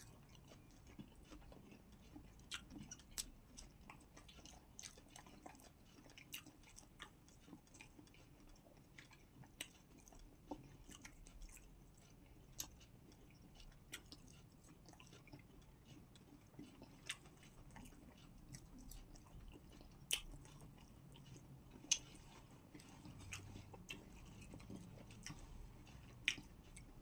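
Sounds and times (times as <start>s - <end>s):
people chewing and eating: 0.0s - 27.0s.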